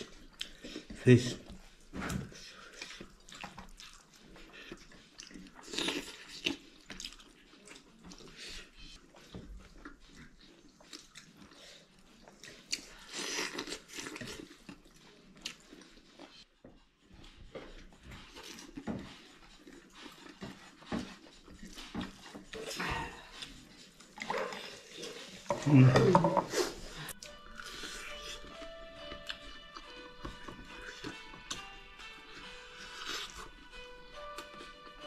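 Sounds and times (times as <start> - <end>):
person chewing and lip-smacking: 0.0 - 1.5, 2.1 - 16.4, 17.6 - 31.7, 32.3 - 33.6.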